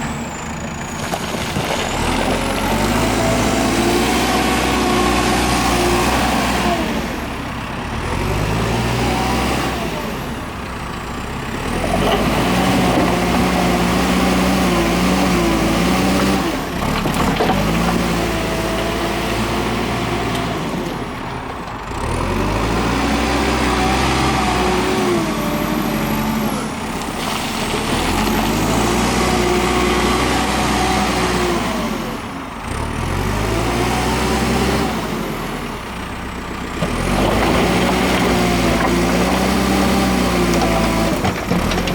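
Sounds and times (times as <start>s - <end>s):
diesel engine revving: 0.0s - 41.9s.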